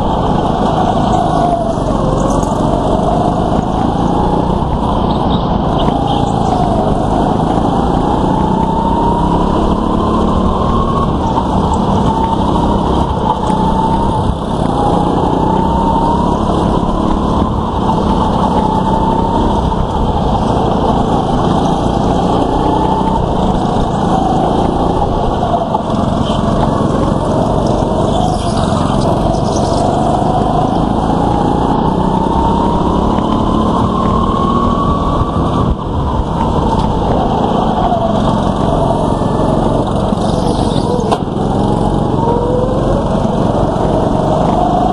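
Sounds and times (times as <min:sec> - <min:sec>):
go-kart engines revving: 0:00.0 - 0:44.9.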